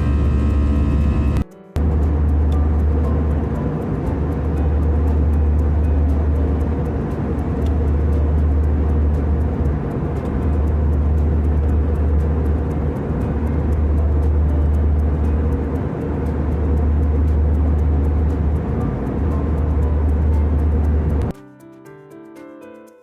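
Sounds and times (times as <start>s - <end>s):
jet engine cabin rumble: 0.0s - 21.3s.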